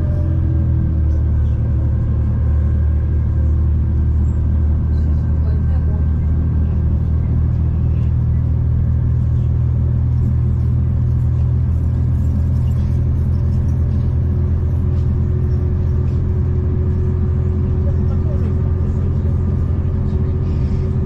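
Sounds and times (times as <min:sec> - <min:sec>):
train rumbling from inside carriage: 0:00.0 - 0:21.0.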